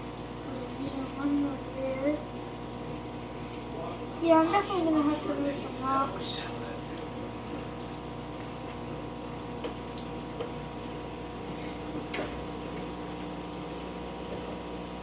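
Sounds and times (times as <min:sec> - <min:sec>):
aquarium pump humming: 0:00.0 - 0:15.0
water running: 0:00.0 - 0:15.0.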